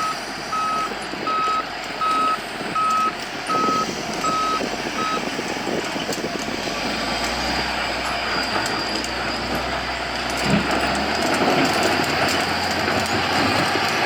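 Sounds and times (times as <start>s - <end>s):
wheel loader diesel engine rumbling: 0.0s - 14.0s.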